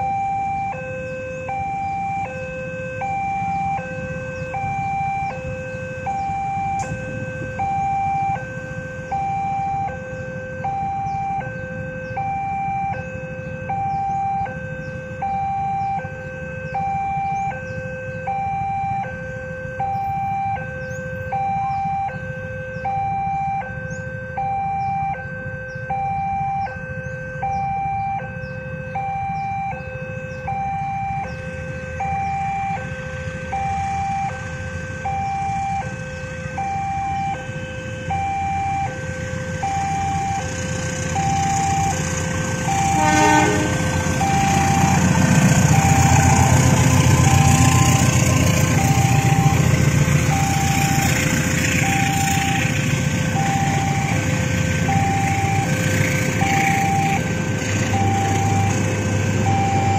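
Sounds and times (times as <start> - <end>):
level crossing two-tone alarm: 0.0 - 59.9.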